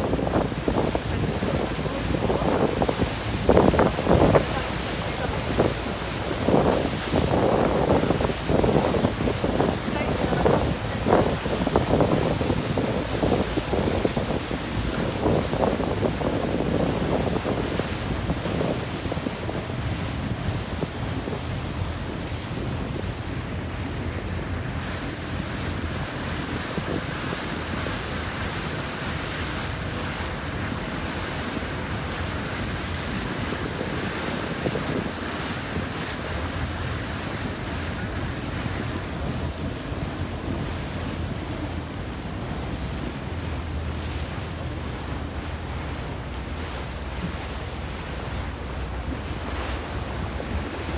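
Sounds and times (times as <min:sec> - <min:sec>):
water splashing past boat: 0:00.0 - 0:50.9
wind buffeting microphone: 0:00.0 - 0:50.9.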